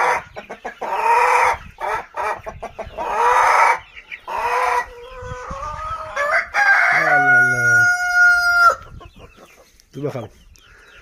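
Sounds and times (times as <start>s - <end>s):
roosters crowing: 0.0s - 9.1s
chicken clucks: 0.0s - 11.0s.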